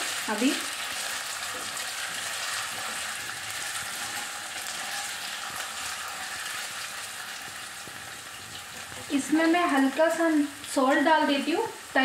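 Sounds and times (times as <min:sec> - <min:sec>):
potatoes frying in hot oil: 0:00.0 - 0:12.0.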